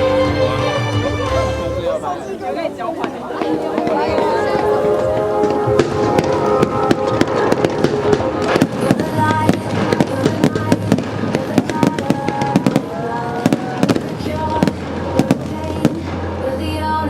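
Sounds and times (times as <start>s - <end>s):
music playing: 0.0s - 2.4s, 3.4s - 17.0s
fireworks bursting and crackling: 1.9s - 17.0s.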